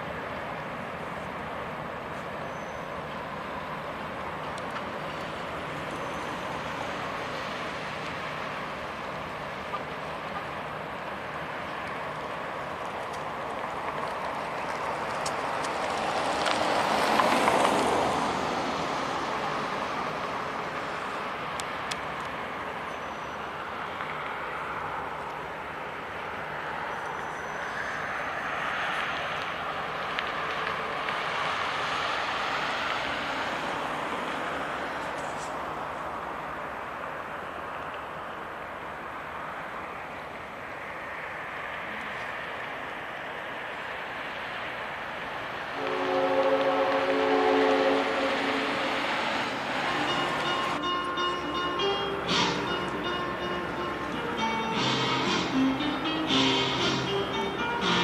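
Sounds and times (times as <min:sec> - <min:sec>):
diesel locomotive running: 0:00.0 - 0:58.0
road traffic passing: 0:00.0 - 0:58.0.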